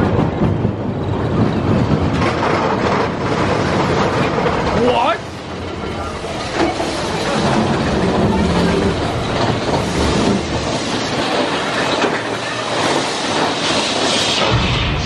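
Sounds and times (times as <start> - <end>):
roller coaster rumbling on rails: 0.0 - 15.0.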